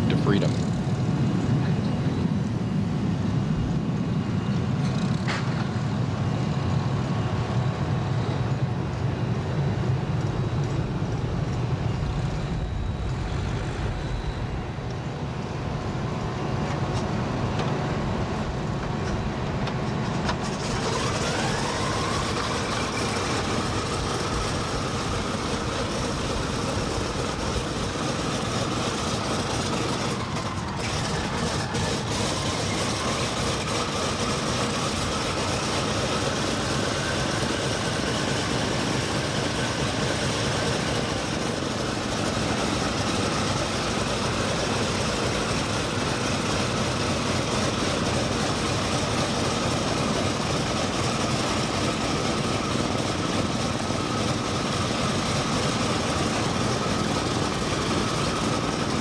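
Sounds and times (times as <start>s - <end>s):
radial aircraft engine starting: 0.0s - 59.0s.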